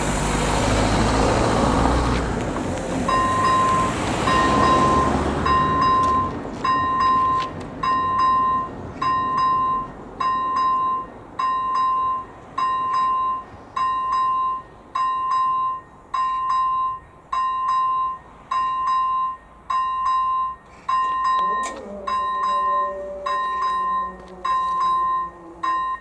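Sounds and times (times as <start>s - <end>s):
electronic crossing bell ringing: 3.1s - 26.0s.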